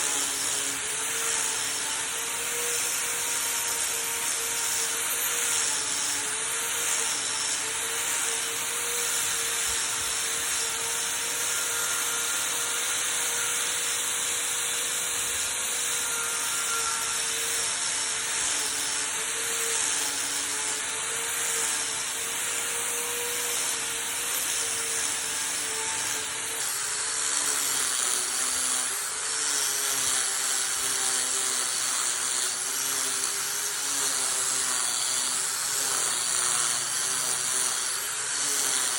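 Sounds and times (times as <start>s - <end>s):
power tool working wood: 0.0s - 38.9s.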